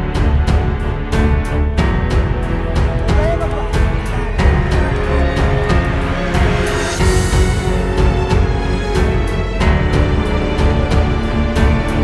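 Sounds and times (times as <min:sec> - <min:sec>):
music with fast percussive beat: 0:00.1 - 0:12.0.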